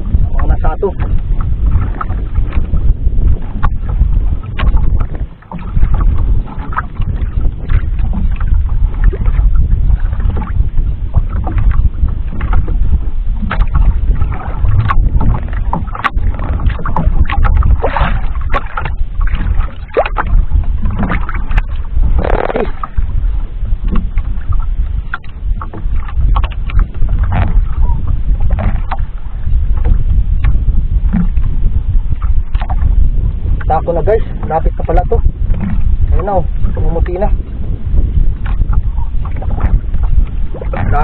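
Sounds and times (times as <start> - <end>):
wind and sea rumble: 0.0 - 41.0.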